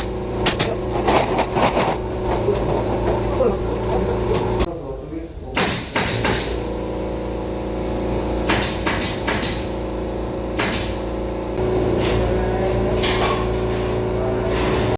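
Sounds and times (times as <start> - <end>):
machine hum: 0.0 - 5.5, 6.4 - 14.9.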